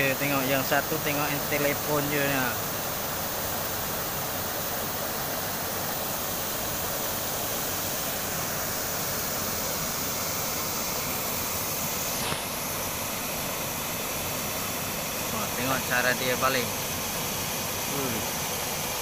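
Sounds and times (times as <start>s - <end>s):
river water rushing over stones: 0.0s - 19.0s.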